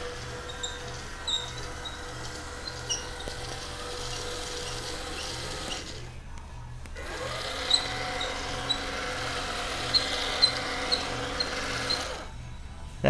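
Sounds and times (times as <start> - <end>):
short high squeaks: 0.0 - 6.1, 7.0 - 12.4
small motors whirring: 0.0 - 6.2, 7.0 - 12.4.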